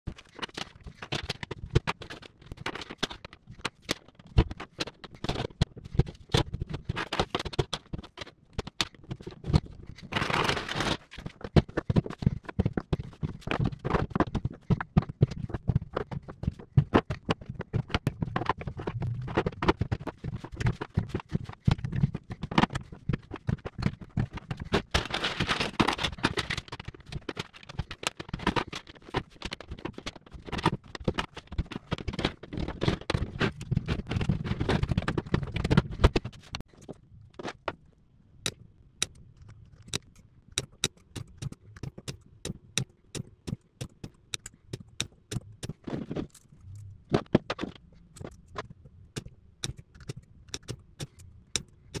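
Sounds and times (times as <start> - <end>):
clicks and knocks of battery cells: 0.1 - 52.0.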